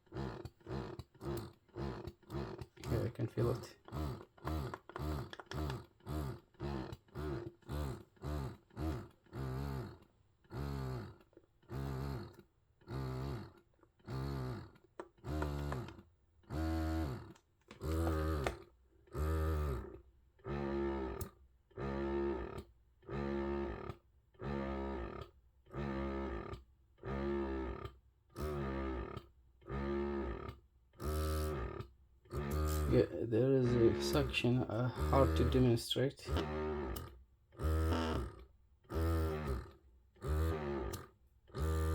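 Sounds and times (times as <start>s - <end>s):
breast pump motor suction cycles: 0.0s - 41.9s.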